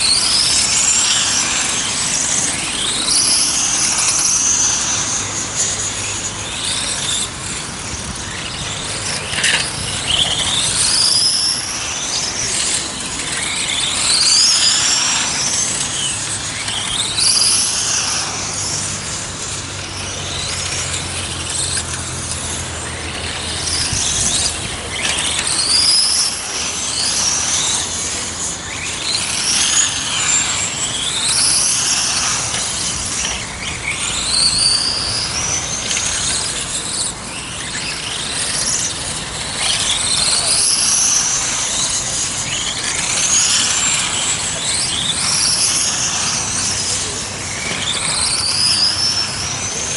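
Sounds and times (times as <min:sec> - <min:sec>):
electric motors whining: 0:00.0 - 0:49.9.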